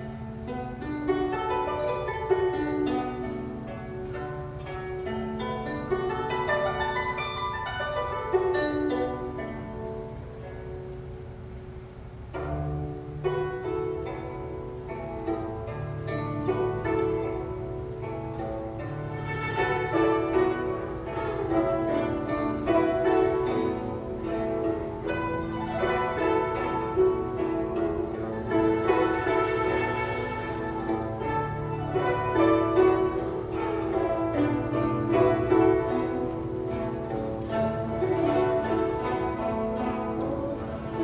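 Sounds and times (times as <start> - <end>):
plucked zither ensemble playing: 0.0 - 41.0.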